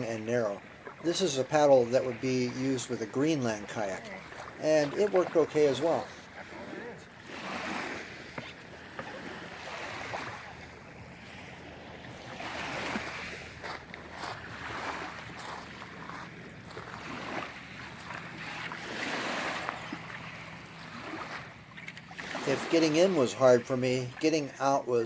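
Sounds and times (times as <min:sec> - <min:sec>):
water sloshing around kayak: 0:00.0 - 0:25.0.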